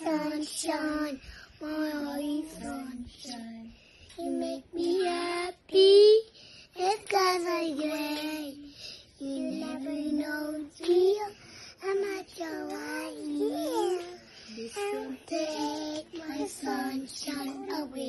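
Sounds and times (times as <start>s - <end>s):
young children singing: 0.0s - 18.0s.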